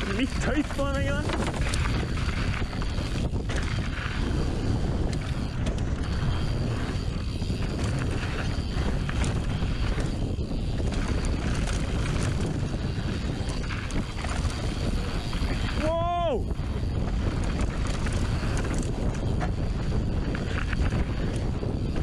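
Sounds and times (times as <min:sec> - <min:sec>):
bike rattling clicks and knocks: 0:00.0 - 0:22.0
bike tyre noise: 0:00.0 - 0:22.0
wind rush over microphone: 0:00.0 - 0:22.0.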